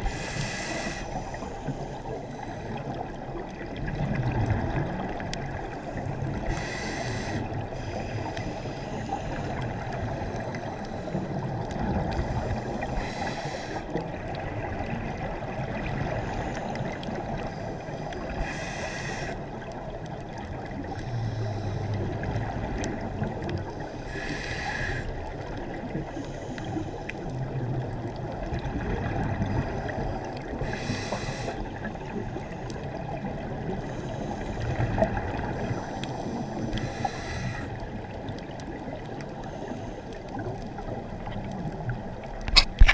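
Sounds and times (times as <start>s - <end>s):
low underwater rush: 0.0s - 42.9s.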